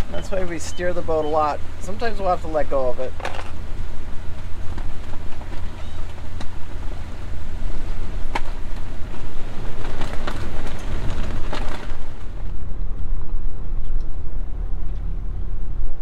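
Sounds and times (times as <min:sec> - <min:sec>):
boat diesel engine rumbling: 0:00.0 - 0:16.0
wind buffeting: 0:00.0 - 0:16.0.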